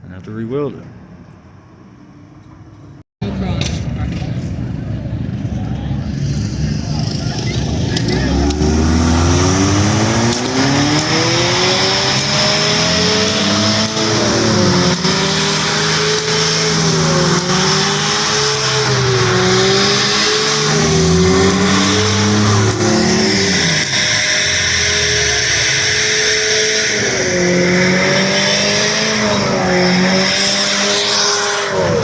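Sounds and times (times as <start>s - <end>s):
car engine revving hard: 6.1s - 32.0s.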